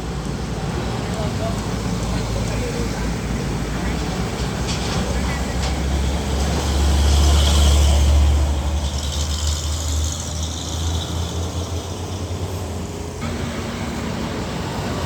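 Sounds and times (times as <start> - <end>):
truck engine rumble: 0.0 - 15.0
tyre and road noise: 0.0 - 15.0.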